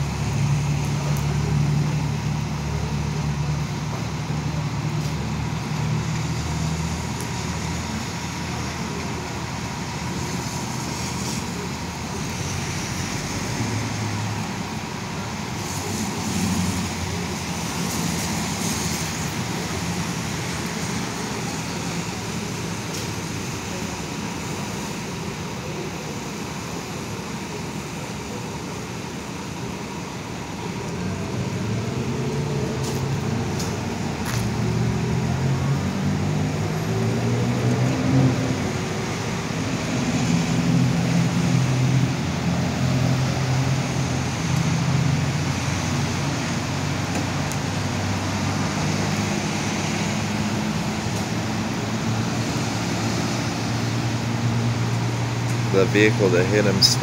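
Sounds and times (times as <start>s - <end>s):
road noise: 0.0s - 57.0s
vehicle engines rumbling: 0.0s - 57.0s.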